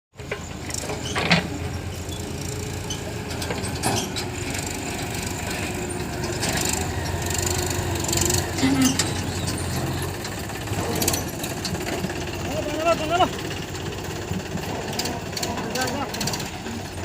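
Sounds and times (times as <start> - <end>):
diesel engine running: 0.2 - 17.0.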